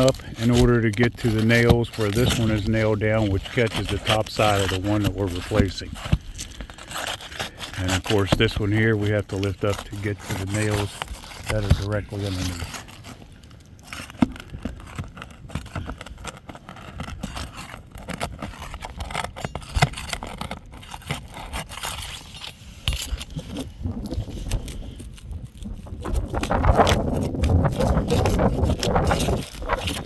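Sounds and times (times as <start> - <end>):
clicks and crackling: 0.0 - 30.0
shingle scraping: 0.0 - 30.0.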